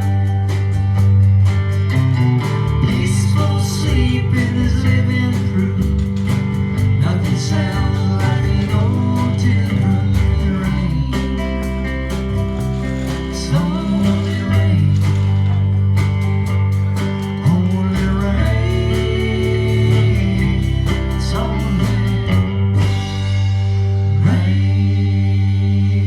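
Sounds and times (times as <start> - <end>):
country band playing live: 0.0 - 26.0.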